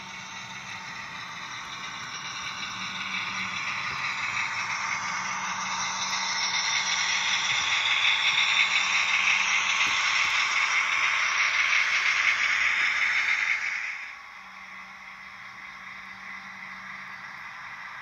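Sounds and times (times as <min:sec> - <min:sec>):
model train rattling hiss: 0:00.0 - 0:17.9.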